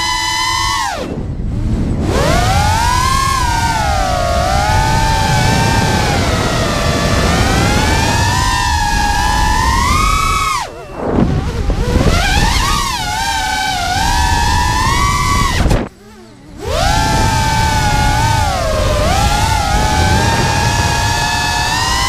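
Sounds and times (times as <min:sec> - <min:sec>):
drone motors whining: 0:00.0 - 0:22.0
wind rushing over microphone: 0:00.0 - 0:22.0.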